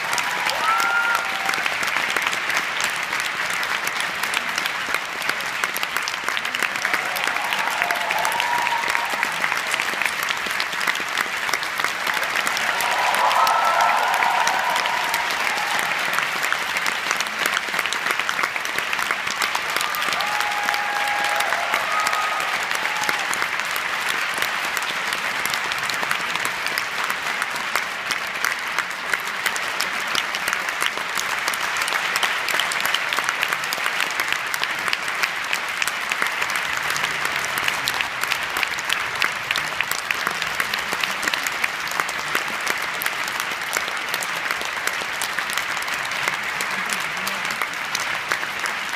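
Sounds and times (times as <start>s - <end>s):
audience applauding: 0.0s - 48.9s.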